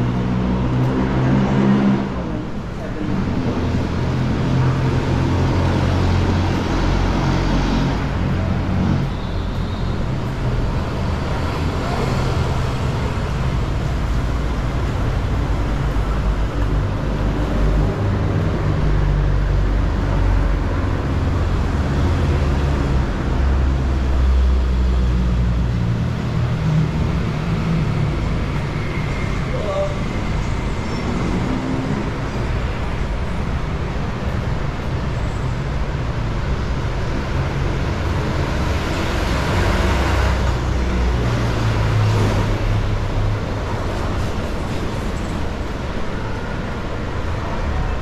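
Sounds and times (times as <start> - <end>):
cars and buses passing: 0.0 - 48.0
vehicle engines rumbling: 0.0 - 48.0.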